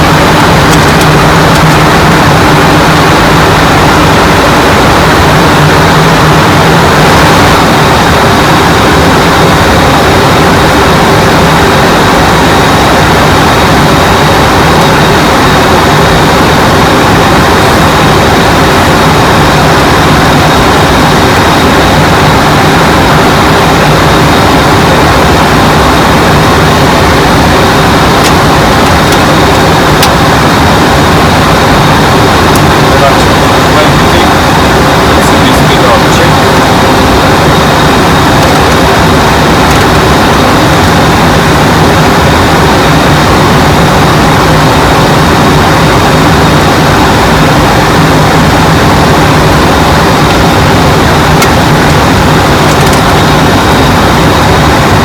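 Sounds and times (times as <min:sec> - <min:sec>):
airflow and jet engines: 0:00.0 - 0:55.0
low hum: 0:00.0 - 0:55.0.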